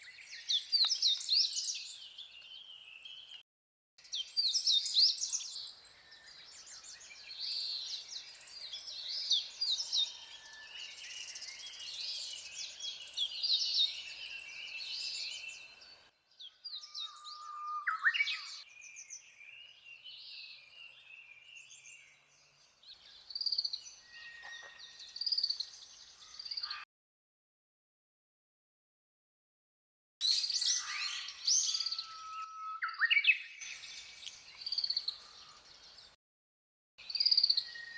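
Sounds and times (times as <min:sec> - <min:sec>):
songbirds singing and chirping: 0:00.0 - 0:03.4, 0:04.0 - 0:26.8, 0:30.2 - 0:36.2, 0:37.0 - 0:37.9.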